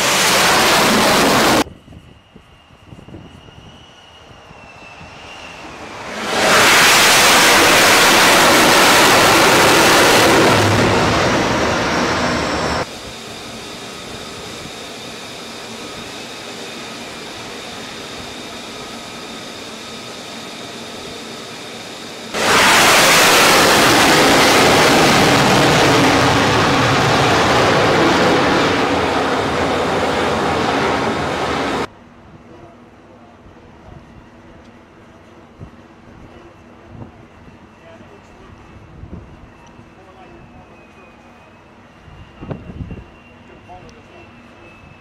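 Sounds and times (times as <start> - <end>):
jet engine roar: 0.0 - 31.9, 33.4 - 45.0
quieter steady rush with whines: 0.0 - 45.0.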